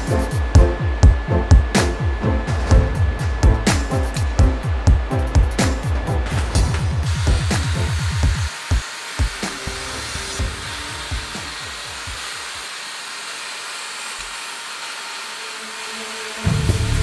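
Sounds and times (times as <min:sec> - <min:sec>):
wire wheel grinder on steel: 0:02.2 - 0:17.0.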